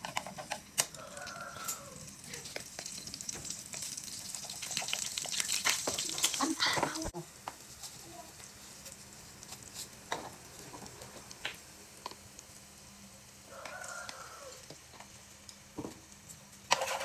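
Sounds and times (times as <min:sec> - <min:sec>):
shallots sizzling in hot oil: 0:00.5 - 0:17.0.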